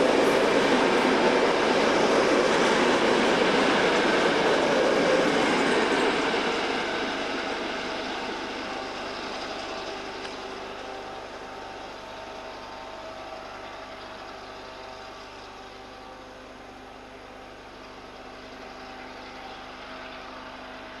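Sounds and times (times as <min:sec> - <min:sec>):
diesel train rumbling: 0:00.0 - 0:21.0.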